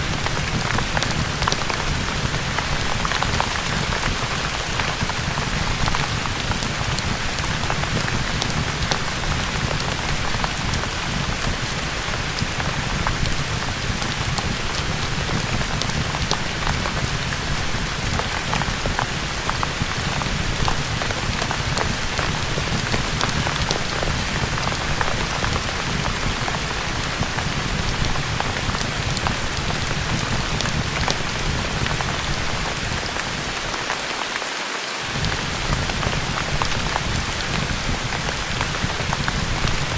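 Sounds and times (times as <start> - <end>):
crackling fireplace: 0.0 - 34.1, 35.0 - 39.9
rain hiss: 0.0 - 39.9.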